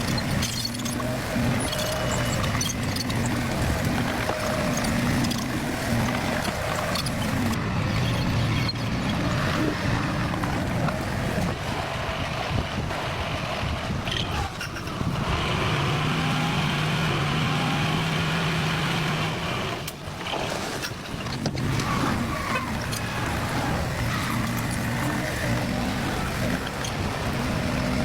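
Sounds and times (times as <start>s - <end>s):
heavy machinery diesel engine running: 0.0s - 28.0s.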